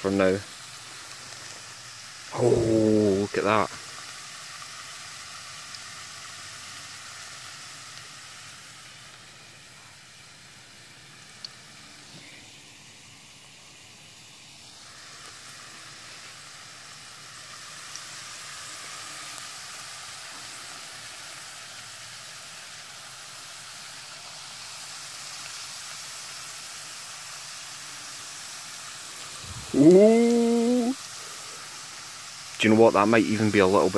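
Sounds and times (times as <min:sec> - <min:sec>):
potato slices sizzling in hot oil: 0:00.0 - 0:33.9.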